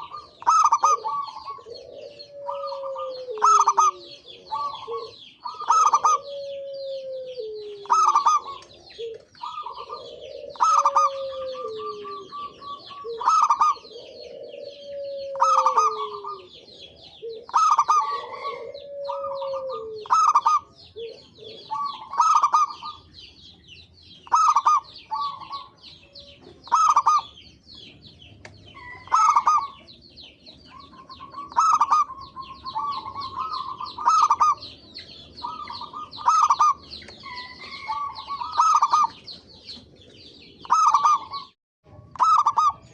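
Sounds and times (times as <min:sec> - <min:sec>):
doves cooing: 0:00.0 - 0:42.9.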